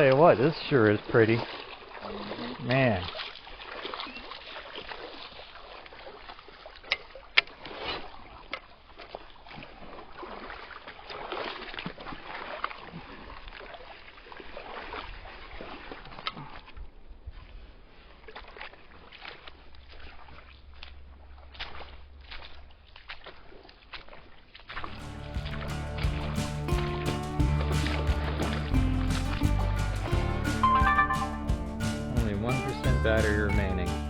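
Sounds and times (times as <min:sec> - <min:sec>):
creek water splashing: 0:00.0 - 0:34.0.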